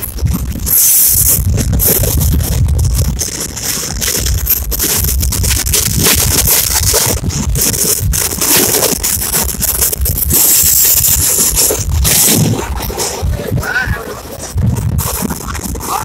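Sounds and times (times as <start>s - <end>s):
wind rushing on microphone: 0.0s - 16.0s.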